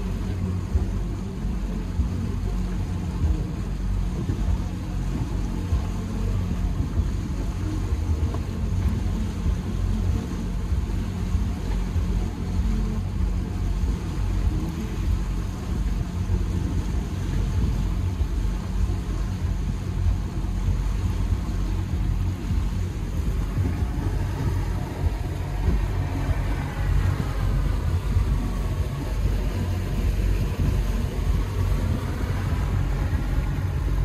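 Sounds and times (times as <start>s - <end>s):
engine running rumble: 0.0s - 34.0s
faint hum: 0.0s - 34.0s.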